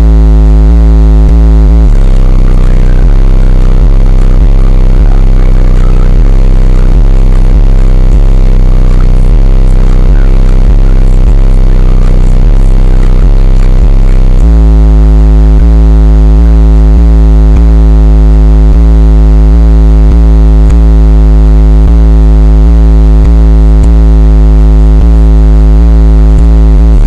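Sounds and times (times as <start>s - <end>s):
loud bass-heavy electronic music: 0.0s - 27.0s.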